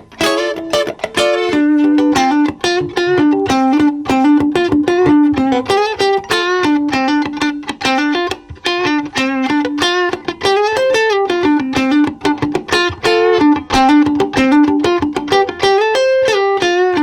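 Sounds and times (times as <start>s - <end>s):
guitar picked notes: 0.0s - 17.0s.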